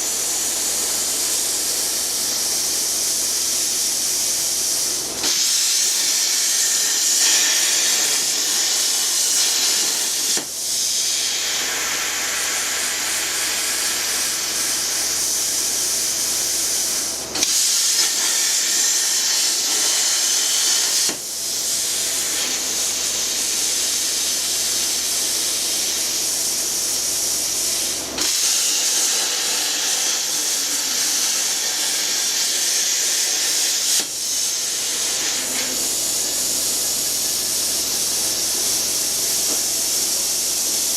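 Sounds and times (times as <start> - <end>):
plasma cutter hissing: 0.0 - 40.9.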